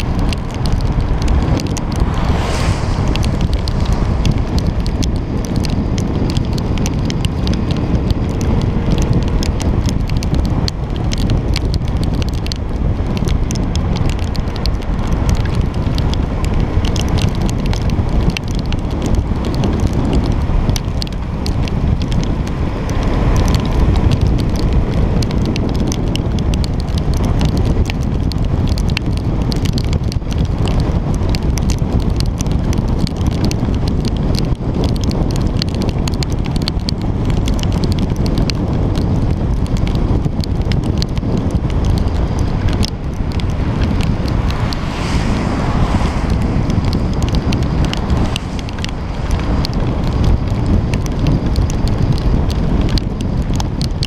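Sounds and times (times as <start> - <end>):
raindrops striking camera: 0.0 - 54.0
wind buffeting microphone: 0.0 - 54.0.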